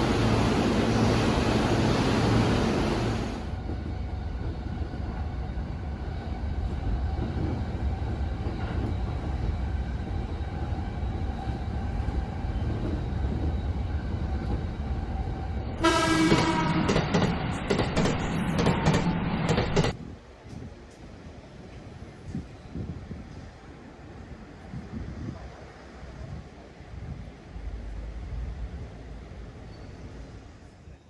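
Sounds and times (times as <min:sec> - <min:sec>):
train rumbling: 0:00.0 - 0:31.0.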